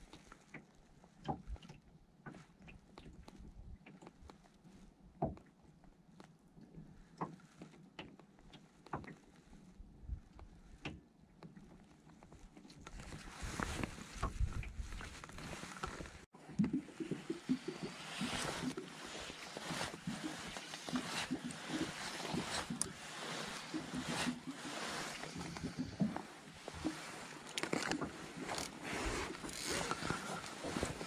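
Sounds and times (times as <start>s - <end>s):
waves lapping against boat hull: 0.0s - 31.0s.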